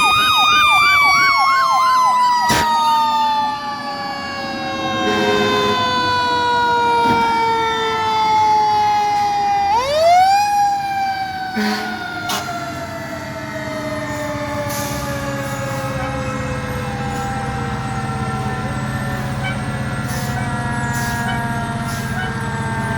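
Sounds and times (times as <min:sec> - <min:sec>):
fire truck siren wailing: 0:00.0 - 0:22.9
truck engine hum: 0:00.0 - 0:22.9.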